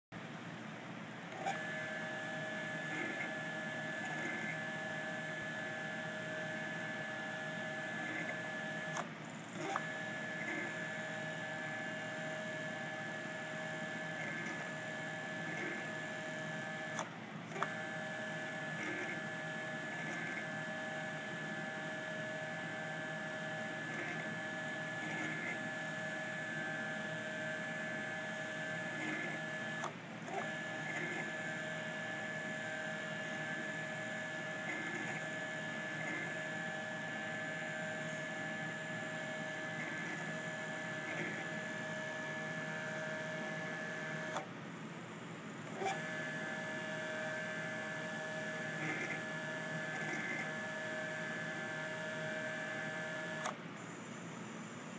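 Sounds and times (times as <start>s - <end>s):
stepper motor whine: 1.3s - 44.5s, 45.6s - 54.9s.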